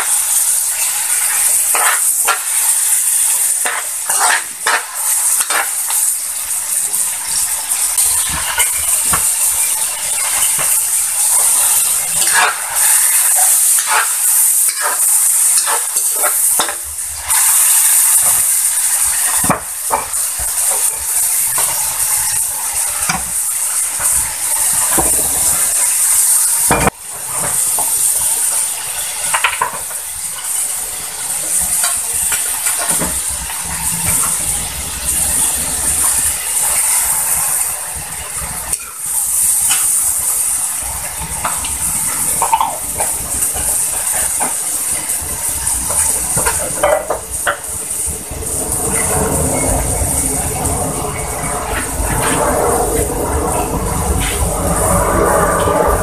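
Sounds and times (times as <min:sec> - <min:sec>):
food sizzling in oil: 0:00.0 - 0:56.0
spatula scraping and knocking wok: 0:00.0 - 0:56.0.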